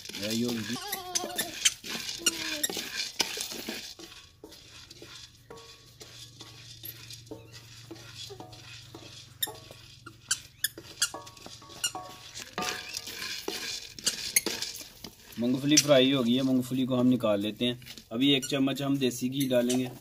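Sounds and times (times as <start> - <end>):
peanuts rattling in metal pan: 0.0 - 20.0
spatula scraping pan: 0.0 - 20.0.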